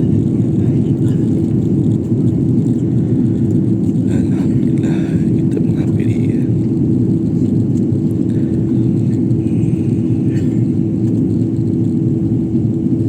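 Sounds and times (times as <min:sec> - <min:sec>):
airliner cabin roar: 0:00.0 - 0:13.0
constant hum: 0:00.0 - 0:13.0.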